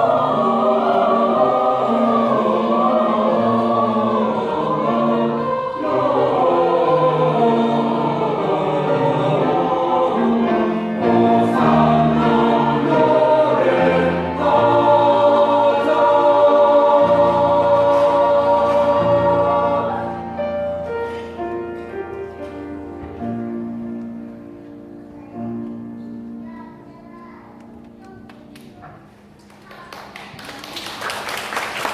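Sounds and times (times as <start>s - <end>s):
church choir singing: 0.0s - 26.0s.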